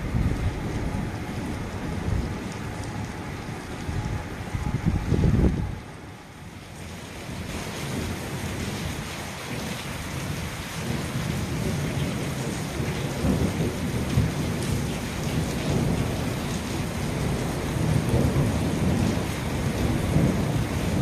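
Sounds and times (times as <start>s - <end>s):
heavy rain falling: 0.0s - 21.0s
thunder rumbling: 0.0s - 21.0s.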